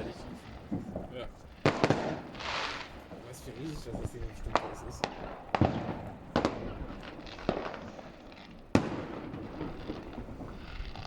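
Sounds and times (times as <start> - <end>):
firework bangs: 0.0 - 11.0
fireworks crackling: 0.0 - 11.0.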